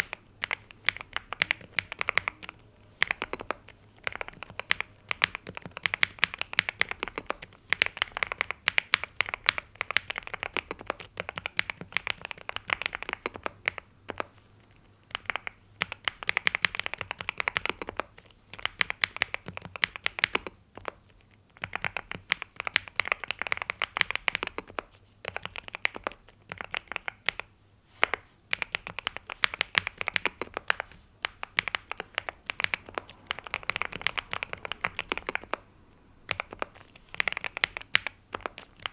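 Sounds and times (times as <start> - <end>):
mechanical keyboard typing: 0.0 - 14.4, 15.1 - 35.7, 36.3 - 38.9.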